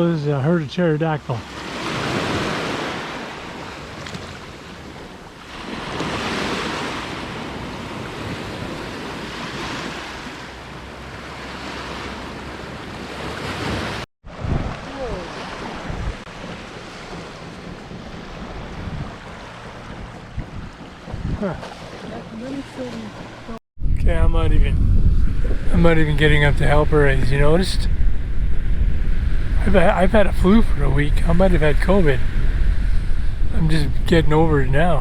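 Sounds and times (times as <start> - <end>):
ocean surf breaking: 0.0 - 35.0
wind buffeting microphone: 1.6 - 11.3, 12.1 - 35.0.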